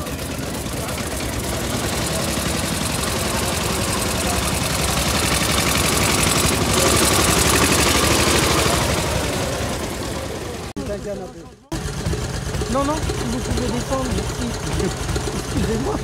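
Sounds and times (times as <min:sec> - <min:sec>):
old car engine idling: 0:00.0 - 0:16.0.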